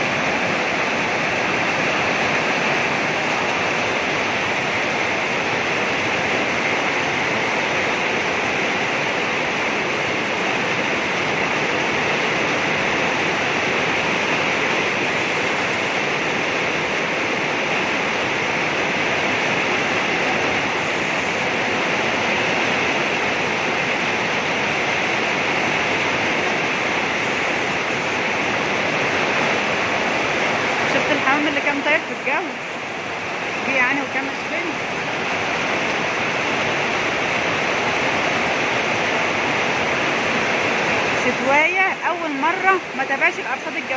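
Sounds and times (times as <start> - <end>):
rain pouring: 0.0 - 43.9.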